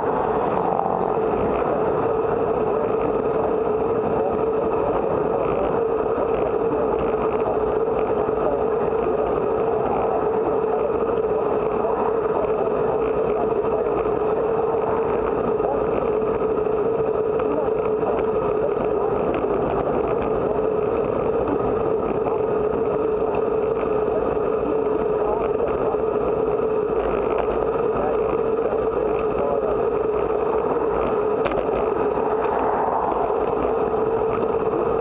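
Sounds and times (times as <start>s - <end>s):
constant hum: 0.0s - 35.0s
wind rush: 0.0s - 35.0s.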